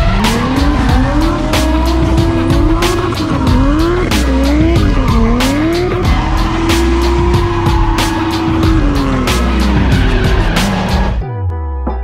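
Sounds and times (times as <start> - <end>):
tyre squeal: 0.0 - 11.1
car engines revving: 0.0 - 11.2
music with deep bass beat: 0.0 - 12.0.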